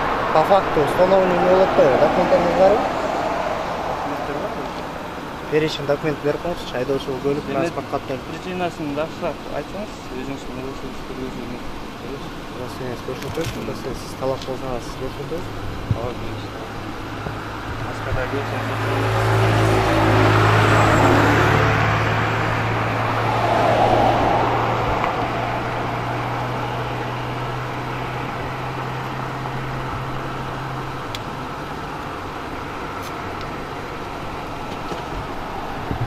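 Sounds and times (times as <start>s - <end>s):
steady engine hum: 0.0s - 36.0s
vehicles rushing by: 0.0s - 36.0s.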